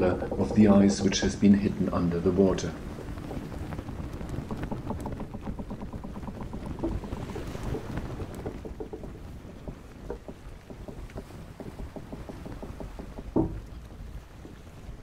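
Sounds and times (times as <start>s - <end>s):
water splashing against boat hull: 0.0s - 15.0s.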